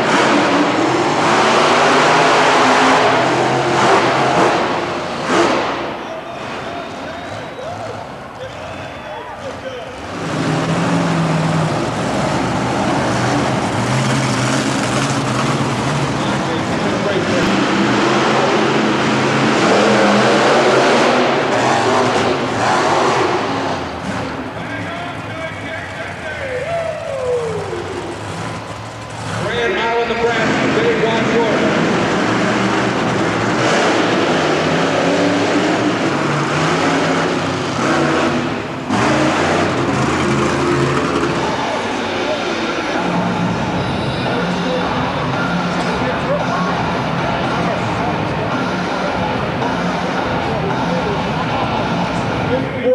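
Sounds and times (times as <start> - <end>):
monster truck engine running: 0.0 - 52.9.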